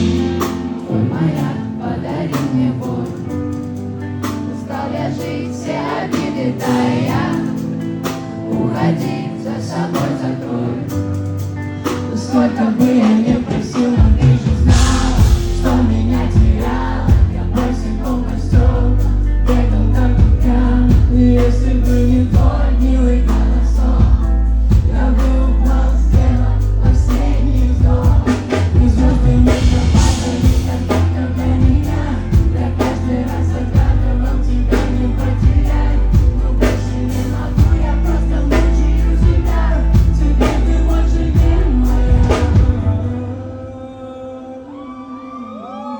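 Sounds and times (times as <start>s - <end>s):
live pop band: 0.0s - 45.9s
person singing: 4.7s - 45.9s.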